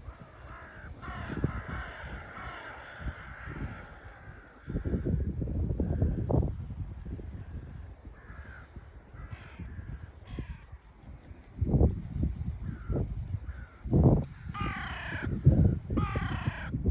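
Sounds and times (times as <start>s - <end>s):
crows cawing: 0.0s - 6.2s, 7.4s - 10.8s, 12.6s - 16.8s.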